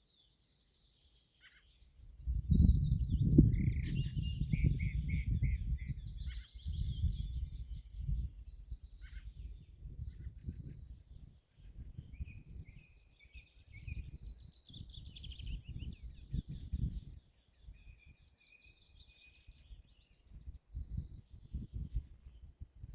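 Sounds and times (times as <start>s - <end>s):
songbirds singing: 0.0s - 22.9s.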